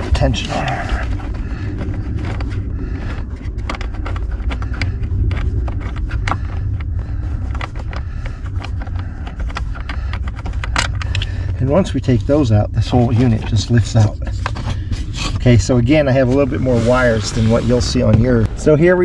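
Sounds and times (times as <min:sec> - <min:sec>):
nuts clicking and scraping by hand: 0:00.0 - 0:18.4
steady low rumble: 0:00.0 - 0:19.0.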